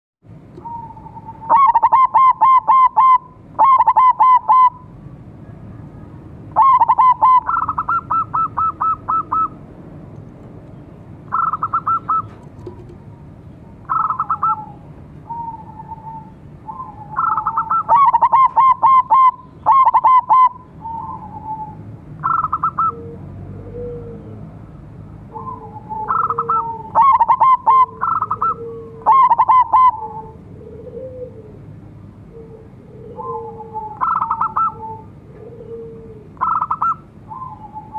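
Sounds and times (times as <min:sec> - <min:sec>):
doves cooing: 0:00.6 - 0:04.9, 0:06.5 - 0:09.6, 0:11.3 - 0:24.6, 0:25.3 - 0:37.9.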